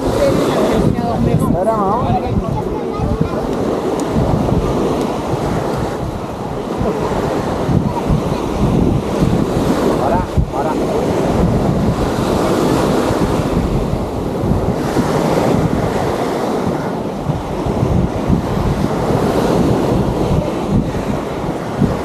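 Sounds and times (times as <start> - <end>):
surf washing onto beach: 0.0 - 22.0
wind buffeting microphone: 0.0 - 22.0.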